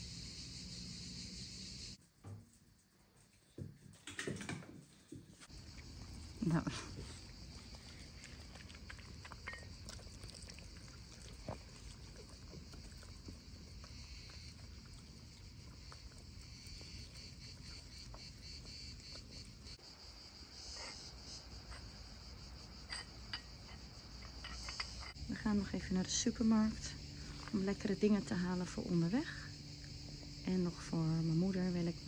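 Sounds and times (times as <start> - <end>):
high-pitched insect chorus: 0.0 - 2.1, 5.4 - 32.0.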